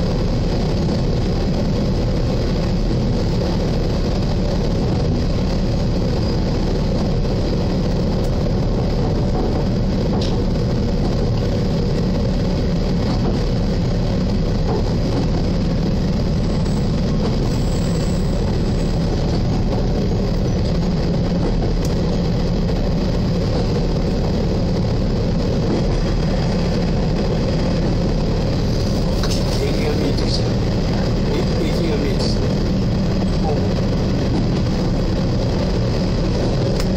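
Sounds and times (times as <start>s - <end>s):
distorted diesel engine drone: 0.0s - 36.9s.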